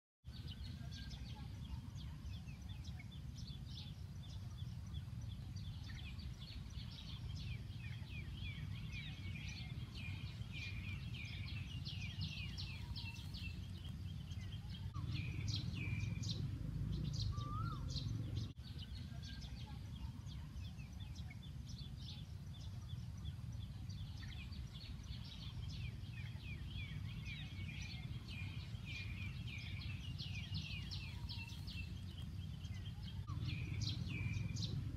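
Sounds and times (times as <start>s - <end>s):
small birds chirping: 0.3s - 34.9s
low rumble: 3.2s - 34.9s.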